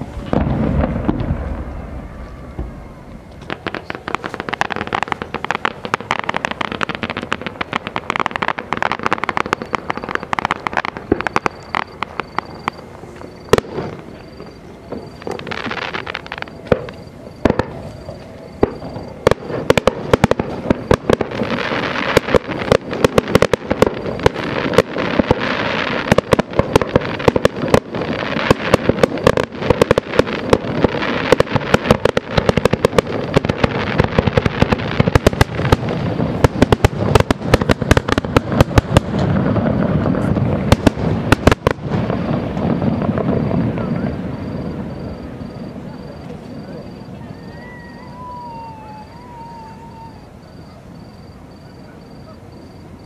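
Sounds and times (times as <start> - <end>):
fireworks bangs: 0.0 - 53.0
fireworks crackle: 0.0 - 53.0.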